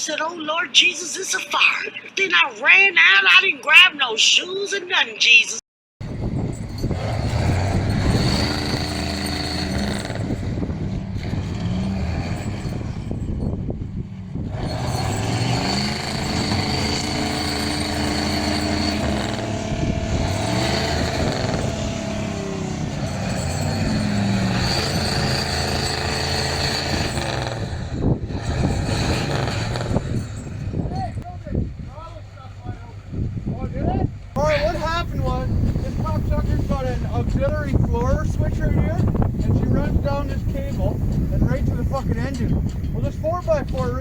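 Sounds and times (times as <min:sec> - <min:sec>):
diesel truck engine revving: 0:06.0 - 0:44.0.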